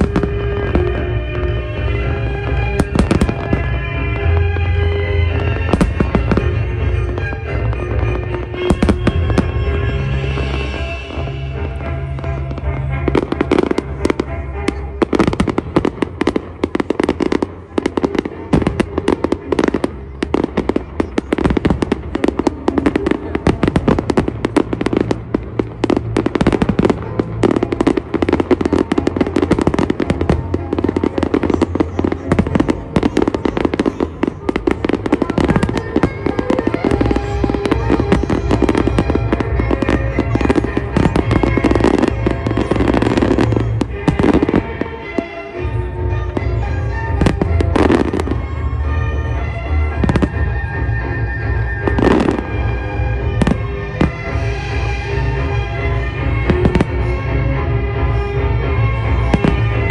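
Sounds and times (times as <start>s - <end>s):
music: 0.0s - 59.9s.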